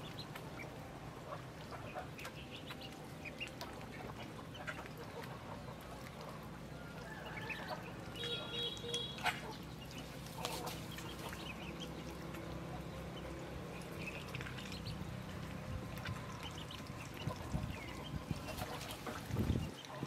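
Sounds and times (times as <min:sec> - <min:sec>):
ducklings paddling in water: 0:00.0 - 0:20.0
ducklings peeping: 0:00.0 - 0:20.0.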